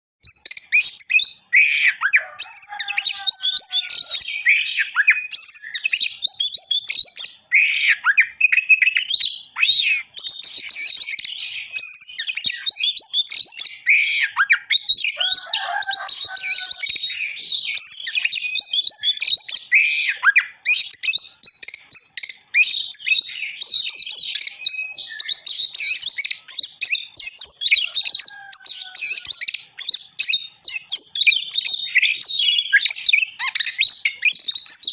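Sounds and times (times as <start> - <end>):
bird singing varied whistles: 0.2 - 34.9.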